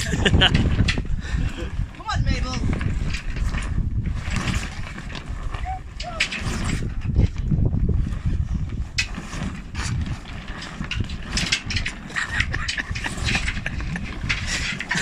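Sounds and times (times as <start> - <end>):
sail cloth rustling: 0.0 - 15.0
wind buffeting microphone: 0.0 - 15.0.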